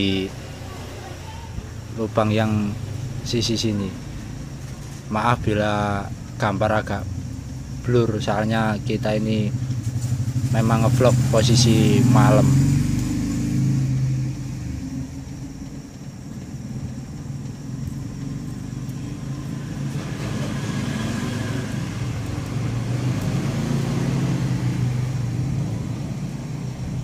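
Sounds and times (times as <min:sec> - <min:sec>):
steady low rumble: 0:00.0 - 0:23.5.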